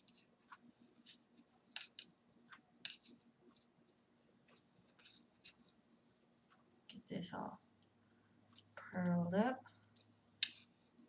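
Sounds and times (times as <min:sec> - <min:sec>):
wooden knitting needles clicking: 0:00.0 - 0:05.8, 0:07.8 - 0:11.0.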